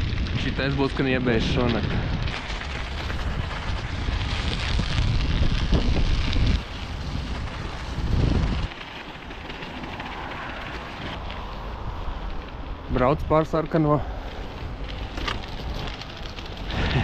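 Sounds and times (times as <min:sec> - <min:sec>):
studded tyres rolling on ice: 0:00.0 - 0:17.0
wind rumbling on microphone: 0:00.0 - 0:17.0.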